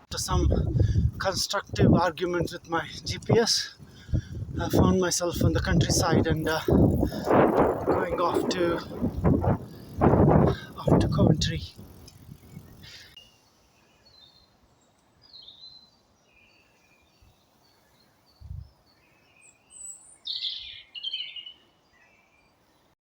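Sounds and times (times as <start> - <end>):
birds singing and chirping: 0.2 - 22.6.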